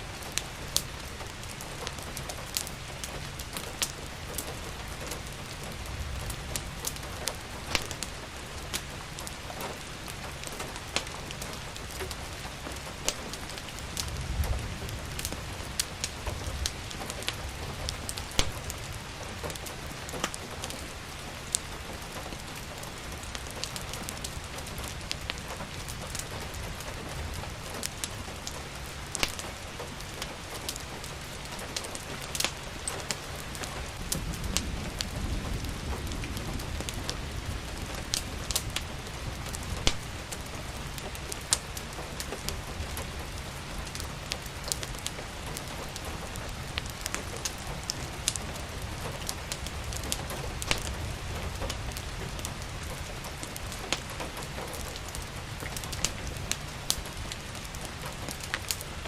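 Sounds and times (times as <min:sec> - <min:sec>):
steady rain: 0:00.0 - 0:59.0
wood fire crackling: 0:00.0 - 0:59.0.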